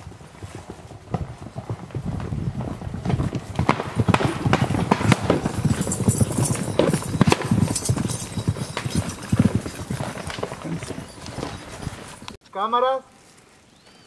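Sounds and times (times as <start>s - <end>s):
horse hooves on ground: 0.0s - 12.4s.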